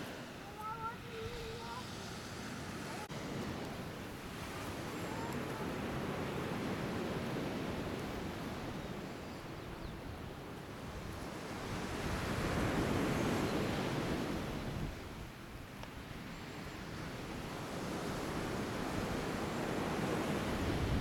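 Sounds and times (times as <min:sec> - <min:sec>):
surf washing onto beach: 0:00.0 - 0:21.0.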